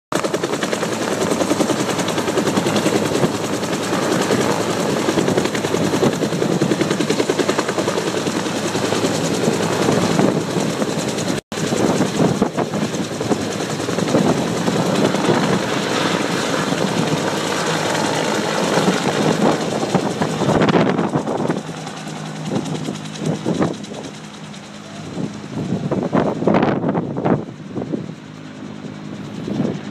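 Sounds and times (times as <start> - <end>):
helicopter rotor beating: 0.1 - 29.9.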